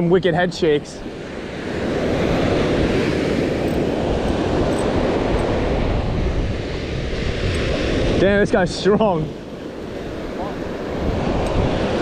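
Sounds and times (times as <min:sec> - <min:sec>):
wind on microphone: 0:01.0 - 0:12.0
surf washing onto beach: 0:01.1 - 0:12.0.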